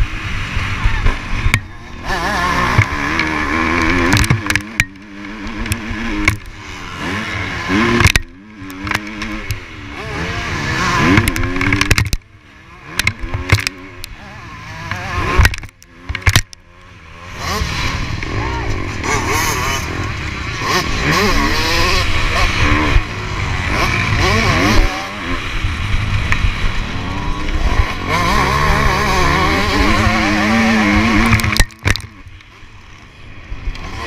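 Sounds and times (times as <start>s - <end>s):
knocks and clatter over rough track: 0.0s - 34.0s
motocross bike engine: 0.0s - 34.0s.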